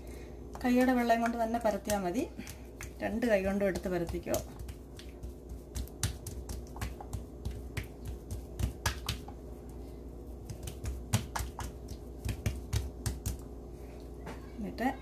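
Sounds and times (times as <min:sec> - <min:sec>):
faint steady hum: 0:00.0 - 0:15.0
hands patting dough on stone: 0:00.5 - 0:13.6.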